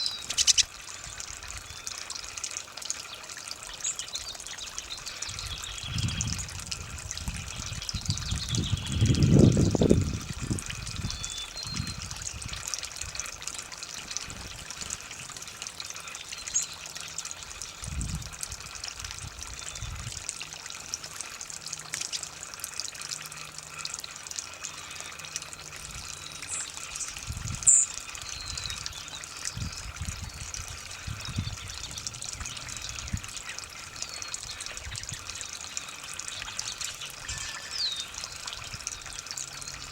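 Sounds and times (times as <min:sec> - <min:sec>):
water from garden hose trickling: 0:00.0 - 0:39.9.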